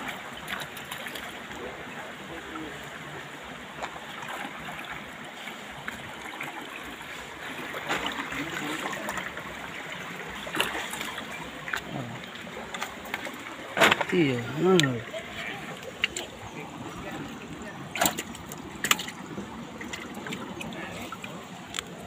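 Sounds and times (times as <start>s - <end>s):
stream water trickling: 0.0s - 22.0s.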